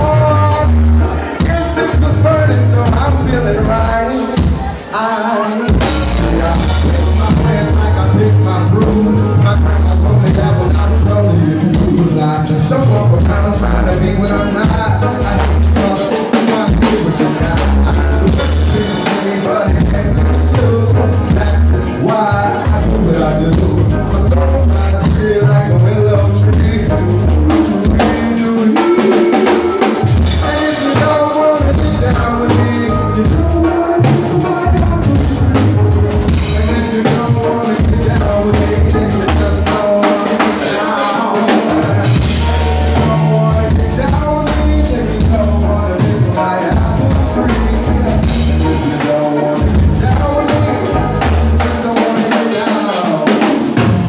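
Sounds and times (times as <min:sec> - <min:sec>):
drum kit: 0:00.0 - 0:54.0
keyboards: 0:00.0 - 0:54.0
person singing: 0:00.0 - 0:54.0.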